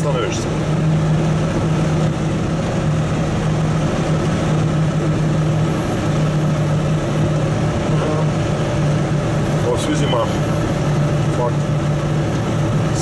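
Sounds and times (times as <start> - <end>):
truck engine drone: 0.0 - 13.0
tyre and road noise: 0.0 - 13.0.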